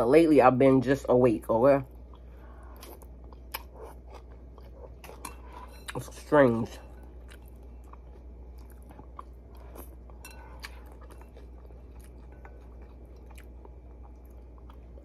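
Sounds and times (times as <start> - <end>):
steady low hum: 0.0 - 15.0
person chewing food: 1.9 - 6.0, 6.9 - 15.0.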